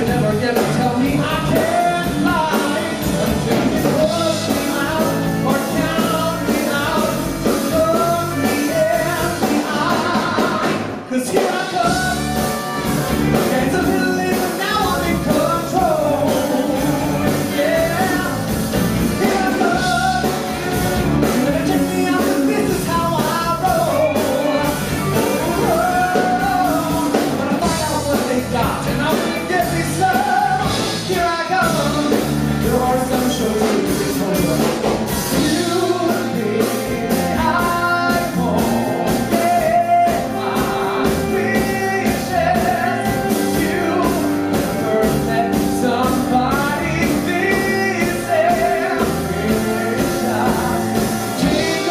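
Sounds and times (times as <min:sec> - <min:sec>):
live band with drums: 0:00.0 - 0:51.9
man singing into a microphone: 0:00.0 - 0:51.9.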